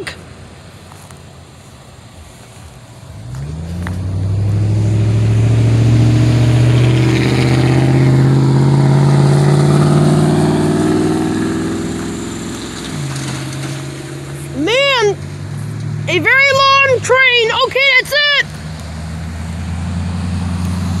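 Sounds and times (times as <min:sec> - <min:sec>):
car engine accelerating: 0:02.2 - 0:21.0.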